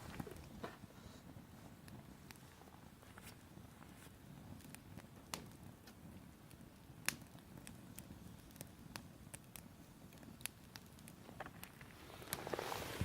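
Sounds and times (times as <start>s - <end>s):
campfire wood crackling: 0.0s - 13.0s
sharp pops of fire: 0.0s - 13.0s.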